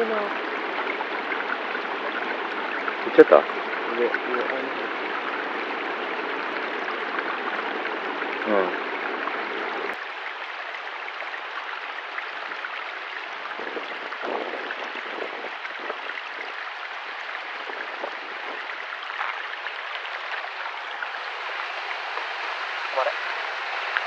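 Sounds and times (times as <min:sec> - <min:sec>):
mountain stream rushing: 0:00.0 - 0:24.0.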